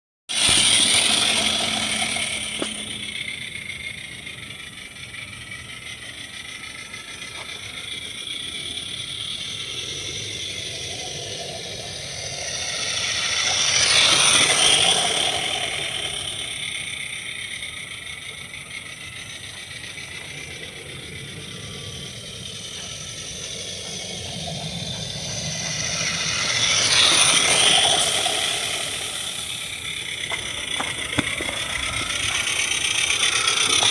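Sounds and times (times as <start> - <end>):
model steam locomotive chuffing: 0.3 - 33.9.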